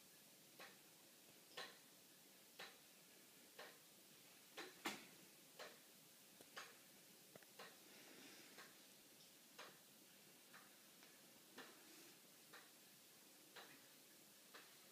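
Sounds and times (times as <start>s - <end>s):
pendulum clock ticking: 0.1s - 14.9s.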